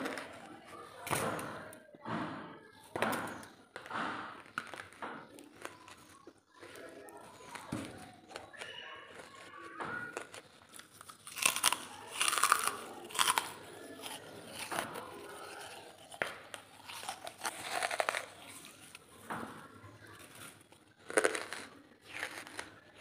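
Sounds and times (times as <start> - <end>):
person crunching charcoal: 3.4 - 19.1, 20.2 - 23.0.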